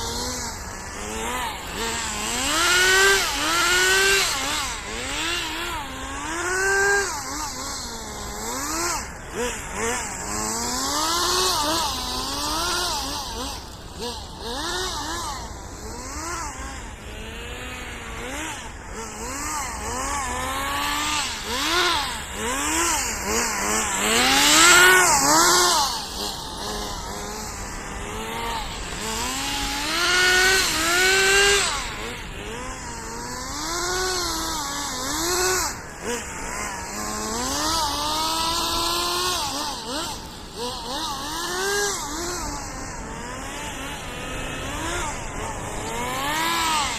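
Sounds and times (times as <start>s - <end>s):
small nitro engine revving: 0.0s - 46.9s.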